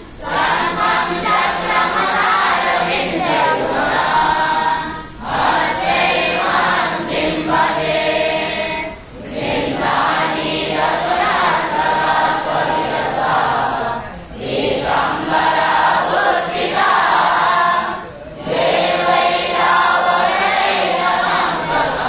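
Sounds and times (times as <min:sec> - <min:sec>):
boys chanting in unison: 0:00.0 - 0:22.0.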